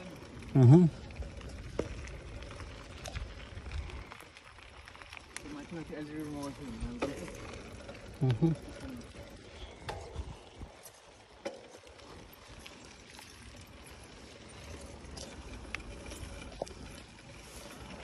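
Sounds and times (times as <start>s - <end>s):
bike clicks and rattles: 0.0s - 18.0s
bike tyres rolling on pavement: 0.0s - 18.0s.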